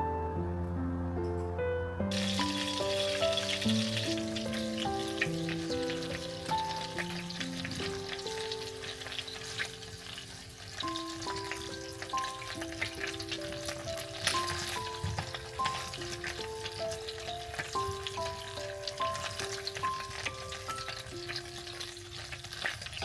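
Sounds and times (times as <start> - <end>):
soft background music: 0.0 - 23.0
food sizzling in a pan: 2.1 - 23.0.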